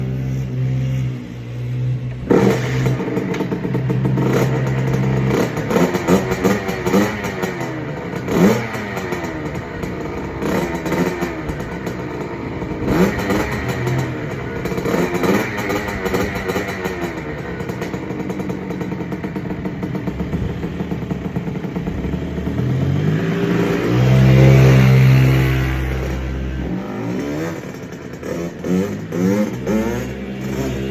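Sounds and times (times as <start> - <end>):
dirt bike engine idling: 2.2 - 30.9.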